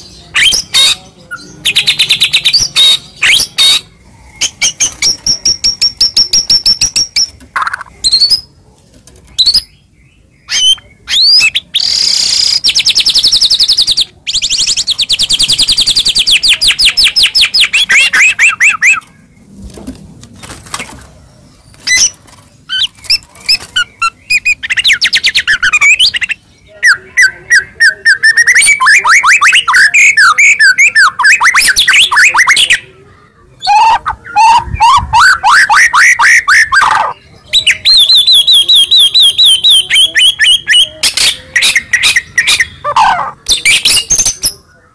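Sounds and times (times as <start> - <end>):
songbird singing trills: 0.0 - 8.6, 9.3 - 19.5, 21.4 - 44.9.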